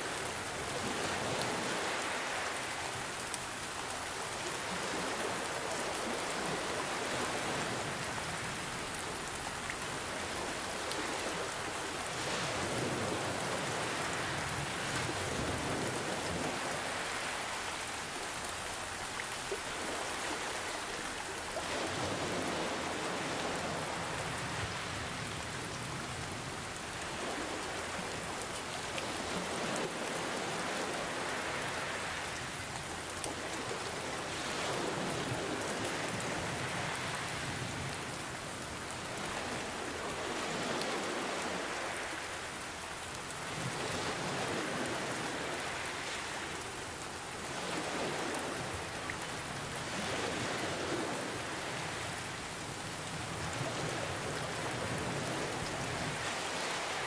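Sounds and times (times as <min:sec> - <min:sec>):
gentle ocean waves: 0:00.0 - 0:57.0
steady rain: 0:00.0 - 0:57.0.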